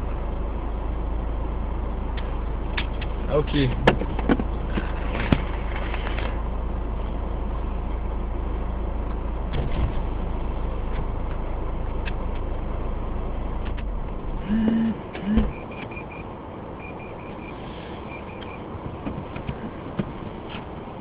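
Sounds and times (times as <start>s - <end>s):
low hum: 0.0s - 20.4s
car engine and road rumble: 0.0s - 21.0s.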